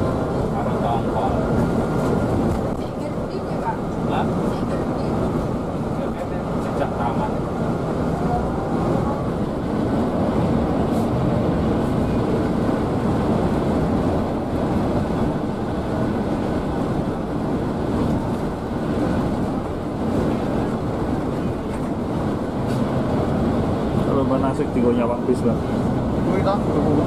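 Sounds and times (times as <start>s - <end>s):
coach engine and road rumble: 0.0s - 27.0s.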